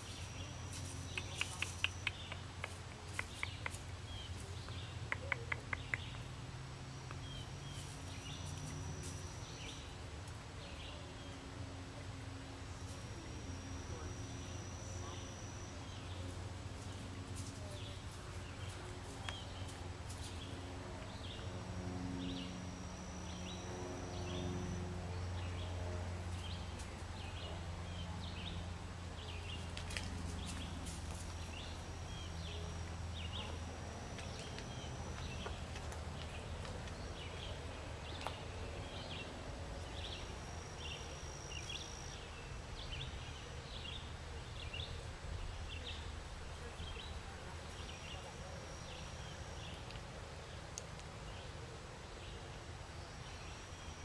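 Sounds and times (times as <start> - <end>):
long high steady tone: 0.0 - 3.1, 6.6 - 29.7, 30.7 - 44.4, 46.6 - 50.8, 51.6 - 54.0
low hum: 0.0 - 51.2.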